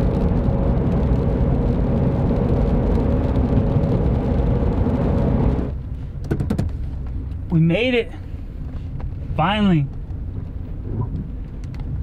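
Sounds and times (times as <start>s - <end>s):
engine and tyre drone on wet road: 0.0s - 12.0s.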